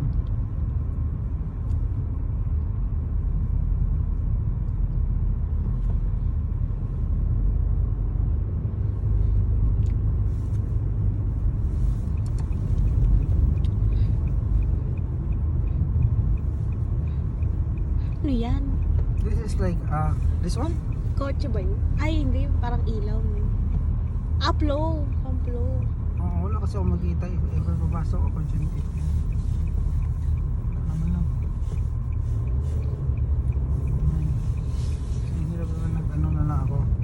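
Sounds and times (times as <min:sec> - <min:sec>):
car driving rumble inside cabin: 0:00.0 - 0:37.0.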